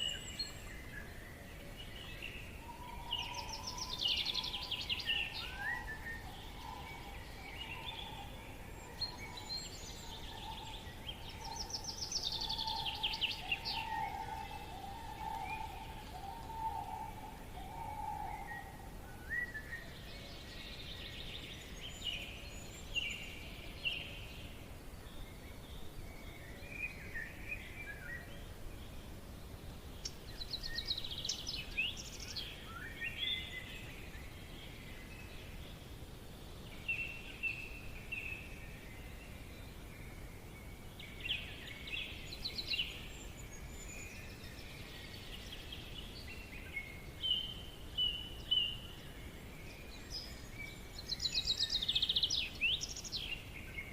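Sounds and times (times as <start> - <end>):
low background hiss: 0.0 - 53.9
small birds chirping and trilling: 0.0 - 53.9.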